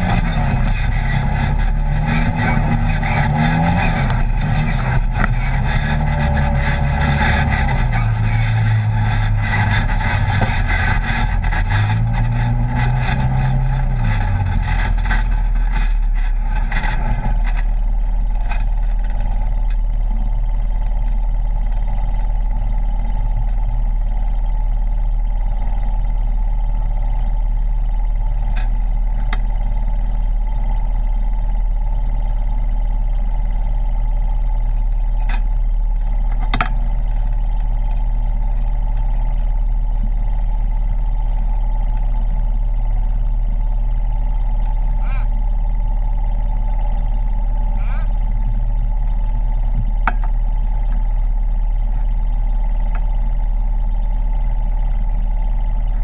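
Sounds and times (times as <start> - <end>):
off-road vehicle engine revving: 0.0 - 56.0
vehicle body rattling: 0.0 - 56.0.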